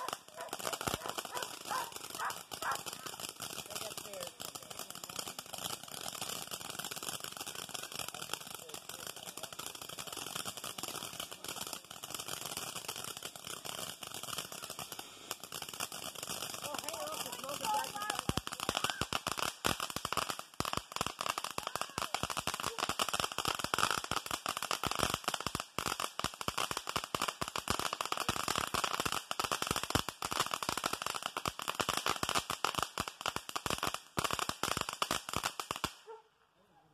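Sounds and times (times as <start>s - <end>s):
firework fountain crackling and hissing: 0.0s - 36.1s.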